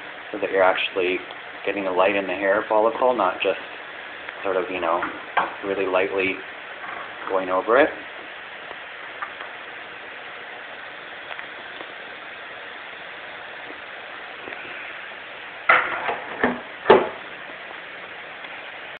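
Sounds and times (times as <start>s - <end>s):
machine hissing: 0.0s - 18.9s.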